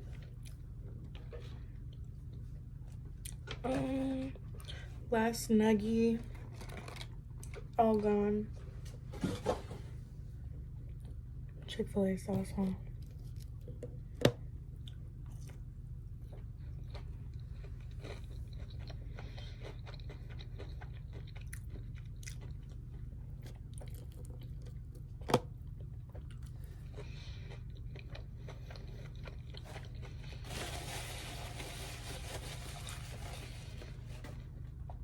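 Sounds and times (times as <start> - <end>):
chewing and crunching food: 0.0 - 5.2, 5.8 - 9.0, 12.3 - 35.0
steady low hum: 0.0 - 35.0.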